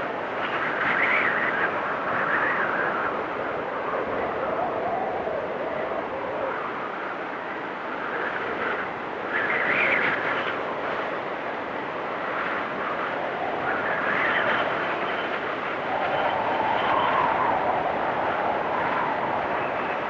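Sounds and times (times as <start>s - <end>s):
blizzard wind gusting: 0.0s - 20.0s.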